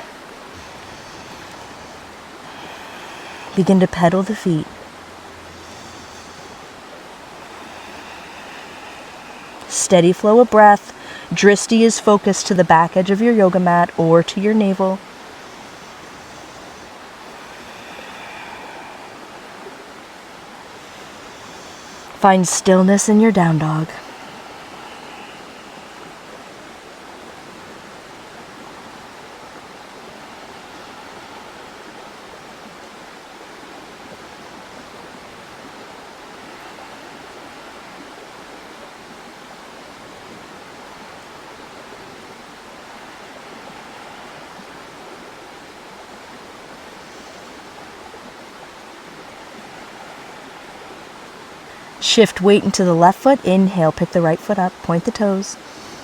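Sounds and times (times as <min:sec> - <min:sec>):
river flowing over rocks: 0:00.0 - 0:52.0.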